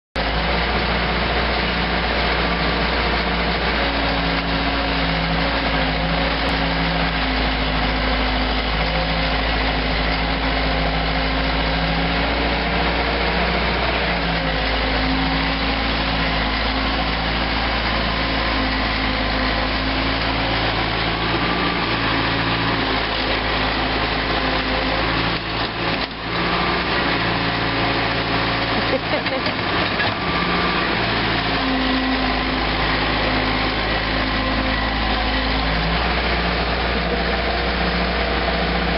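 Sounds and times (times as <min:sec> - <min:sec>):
excavator diesel engine droning: 0:00.2 - 0:38.9.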